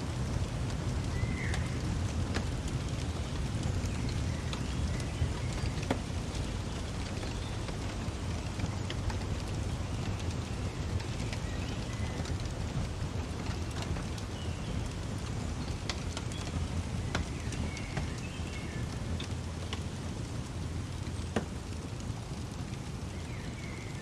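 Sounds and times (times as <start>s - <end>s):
fireplace crackling and popping: 0.0s - 24.0s.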